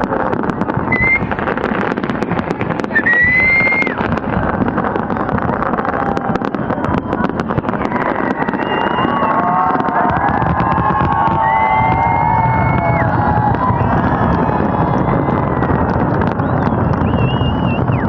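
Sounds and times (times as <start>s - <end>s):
fireworks bangs and crackles: 0.0s - 18.0s
rising firework whistle: 0.0s - 18.0s
steady rumble: 0.0s - 18.0s.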